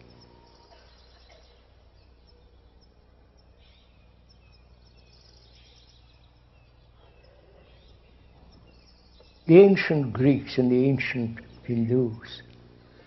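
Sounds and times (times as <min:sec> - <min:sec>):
faint bird chirps: 0:00.0 - 0:13.0
faint recording hum: 0:00.0 - 0:13.0.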